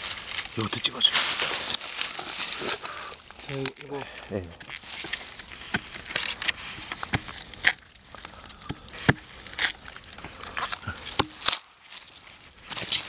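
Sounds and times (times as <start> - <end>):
dry leaves and wood crackling: 0.0 - 13.0
leaves rustling: 0.0 - 13.0.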